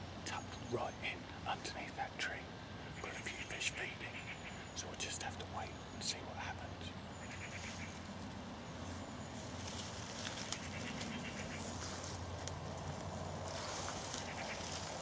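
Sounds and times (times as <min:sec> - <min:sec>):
faint animal sounds: 0:00.3 - 0:15.0.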